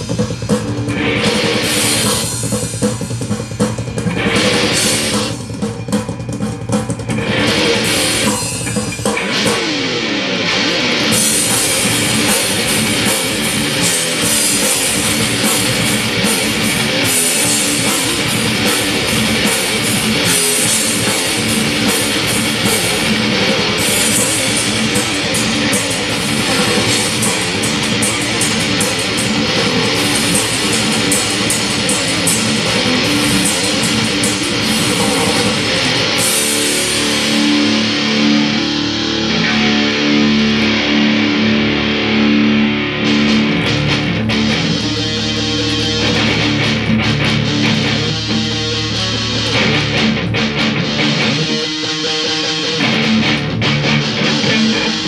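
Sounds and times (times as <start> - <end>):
drum kit: 0.0 - 55.0
electric guitar riffs: 0.0 - 55.0.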